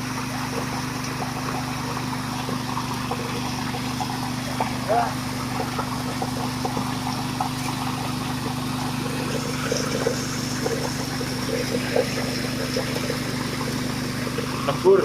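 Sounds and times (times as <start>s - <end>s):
machine motor drone: 0.0s - 15.0s.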